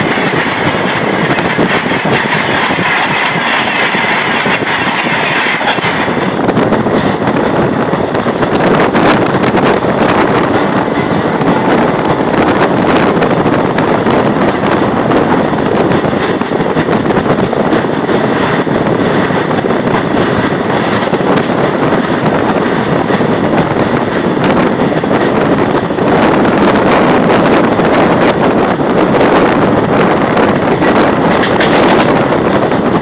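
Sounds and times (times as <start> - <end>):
train running noise: 0.0 - 33.0
wind rushing over microphone: 0.0 - 33.0.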